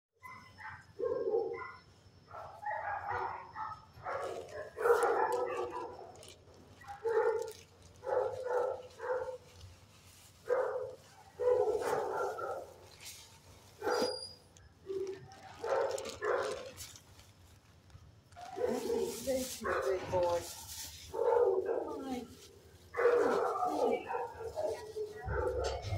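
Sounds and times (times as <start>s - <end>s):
dogs barking: 0.2s - 9.6s, 10.4s - 12.9s, 13.7s - 14.2s, 14.9s - 16.8s, 18.4s - 20.5s, 21.1s - 25.9s.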